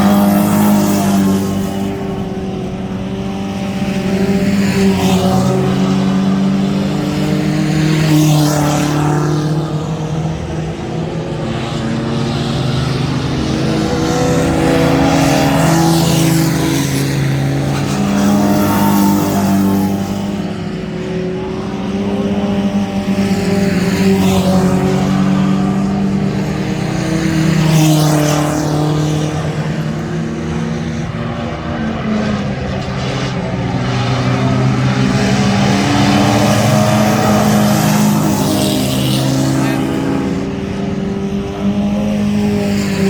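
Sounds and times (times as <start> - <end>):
race truck engines revving past: 0.0 - 43.0.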